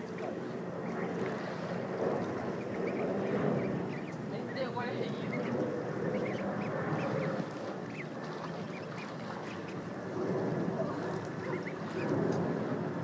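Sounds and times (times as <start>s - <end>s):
ducklings peeping: 0.1s - 10.0s, 10.8s - 12.1s.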